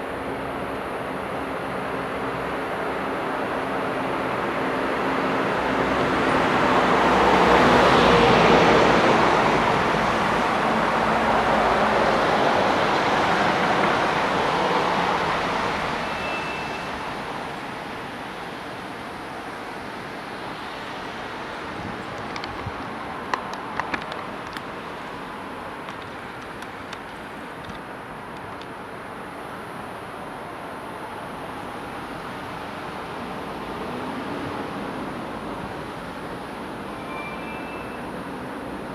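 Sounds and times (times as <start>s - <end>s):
vehicle passing on highway: 0.0s - 36.9s.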